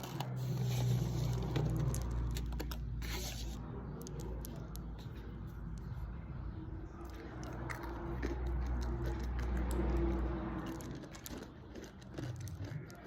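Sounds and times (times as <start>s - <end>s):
food squishing and crackling: 0.0s - 6.1s, 6.9s - 13.0s.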